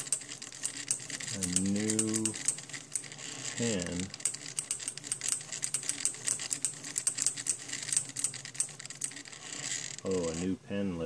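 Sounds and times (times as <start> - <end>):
stepper motors clicking and ticking: 0.0 - 10.5.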